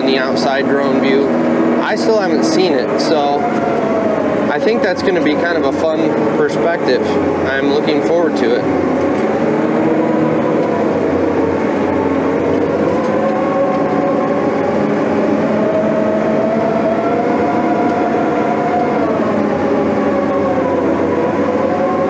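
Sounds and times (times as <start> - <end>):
heavy diesel engine under load: 0.0 - 22.0
whining tone: 0.0 - 22.0.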